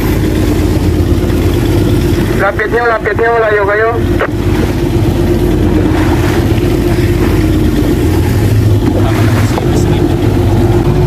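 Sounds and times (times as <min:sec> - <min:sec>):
boat engine running: 0:00.0 - 0:11.0
water splashing along hull: 0:00.0 - 0:11.0.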